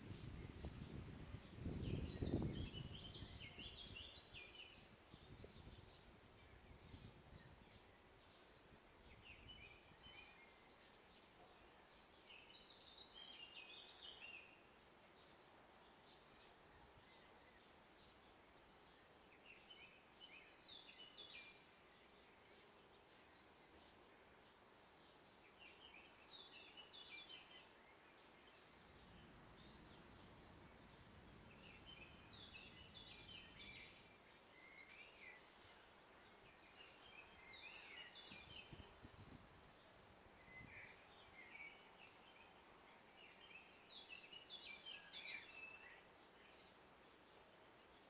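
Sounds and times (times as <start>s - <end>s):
forest background hiss: 0.0s - 48.0s
songbird singing: 0.0s - 48.0s.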